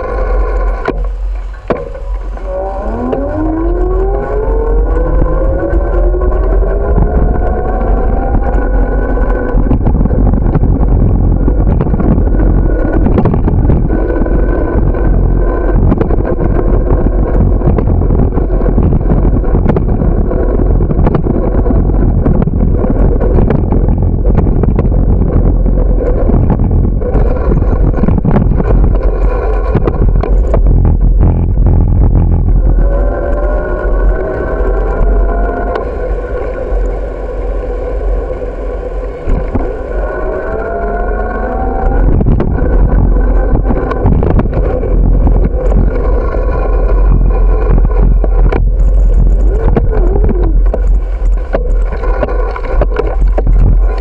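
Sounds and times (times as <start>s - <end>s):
motor-like hum rising in pitch: 0.0s - 54.0s
wind rumbling on microphone: 0.0s - 54.0s.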